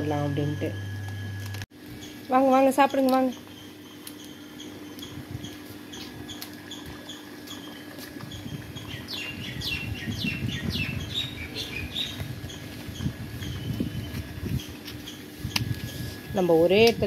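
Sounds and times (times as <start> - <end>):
small birds chirping: 2.0 - 15.6.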